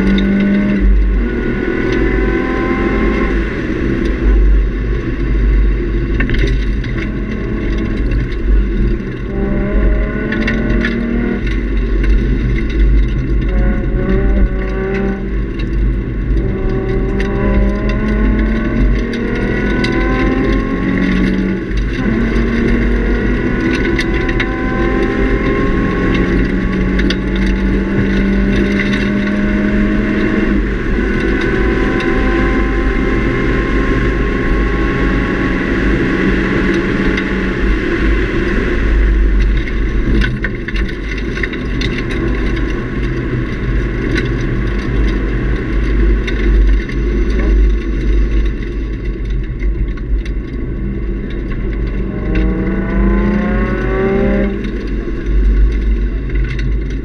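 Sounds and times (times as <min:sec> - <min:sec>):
car engine revving: 0:00.0 - 0:57.0
road and wind rumble: 0:00.0 - 0:57.0.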